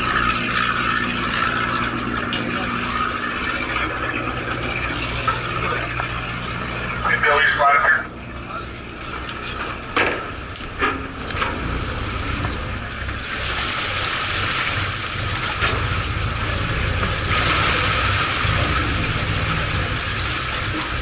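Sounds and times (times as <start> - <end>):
water rushing and splashing: 0.0 - 8.3, 9.8 - 21.0
boat engine humming: 0.0 - 21.0.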